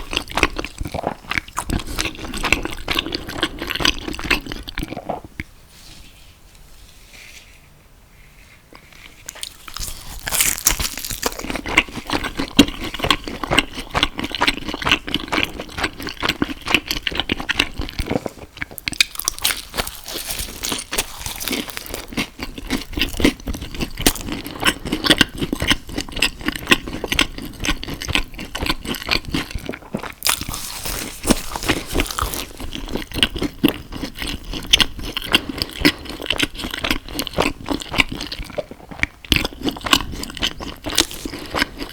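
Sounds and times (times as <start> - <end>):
person chewing food: 0.0 - 5.5, 8.7 - 41.9.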